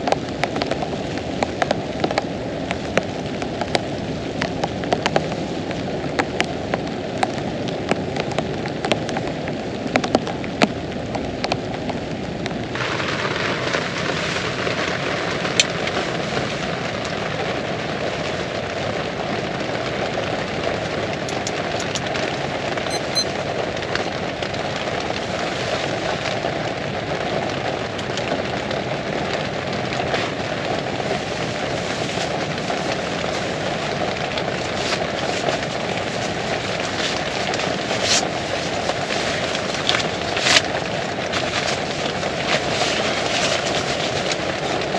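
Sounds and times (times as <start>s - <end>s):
heavy rain falling: 0.0s - 44.9s
raindrops striking close by: 0.0s - 44.9s.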